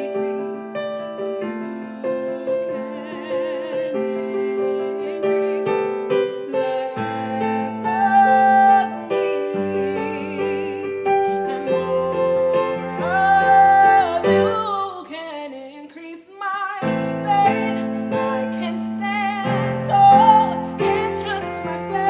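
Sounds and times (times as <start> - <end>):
piano accompaniment: 0.0 - 15.3, 16.7 - 22.0
woman singing with vibrato: 0.0 - 22.0.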